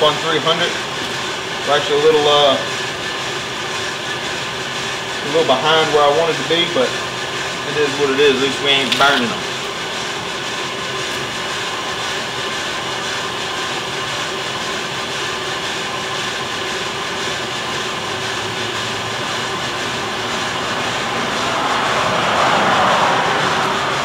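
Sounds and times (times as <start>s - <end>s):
gas burner and fan rushing: 0.0s - 24.0s.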